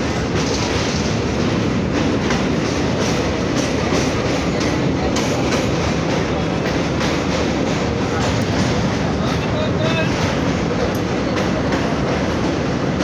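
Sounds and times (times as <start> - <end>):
train rumbling on bridge: 0.0 - 13.0.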